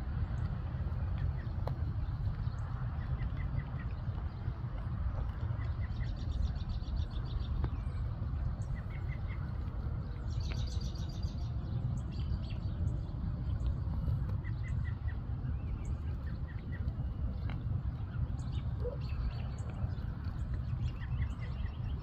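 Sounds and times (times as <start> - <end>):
steady low rumble: 0.0 - 22.0
small birds chirping: 0.1 - 22.0.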